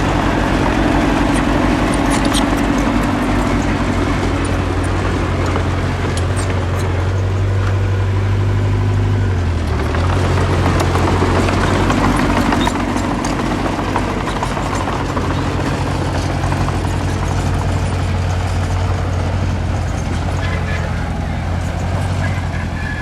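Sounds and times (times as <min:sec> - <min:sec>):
rattling clattering: 0:00.0 - 0:07.0, 0:09.7 - 0:22.5
diesel engine running under load: 0:00.0 - 0:23.0.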